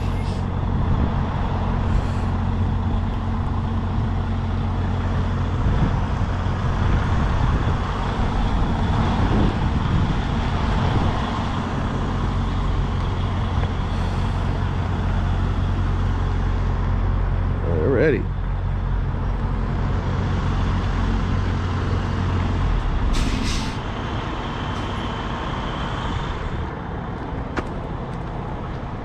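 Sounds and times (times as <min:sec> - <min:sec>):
diesel truck engine at low revs: 0:00.0 - 0:29.0.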